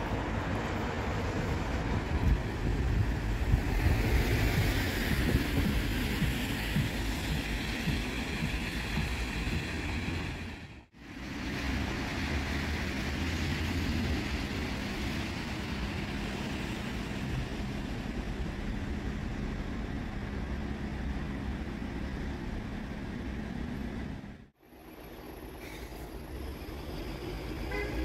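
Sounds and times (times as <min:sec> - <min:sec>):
cars driving on wet road: 0:00.0 - 0:24.5.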